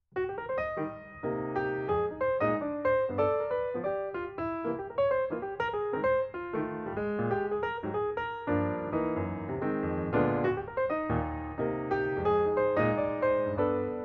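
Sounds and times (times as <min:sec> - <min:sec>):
piano music: 0:00.1 - 0:14.0.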